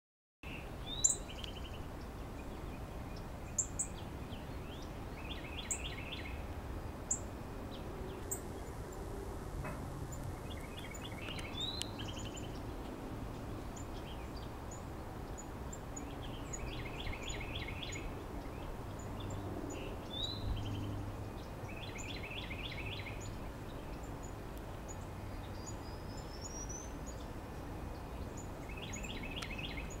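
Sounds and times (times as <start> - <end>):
background hiss: 0.5 - 30.0.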